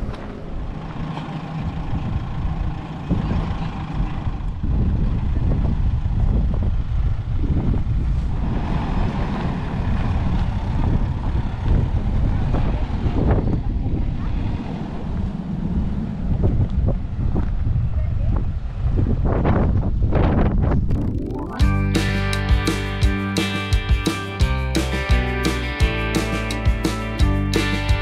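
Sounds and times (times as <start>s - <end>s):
vehicle engine and road rumble: 0.0s - 23.1s.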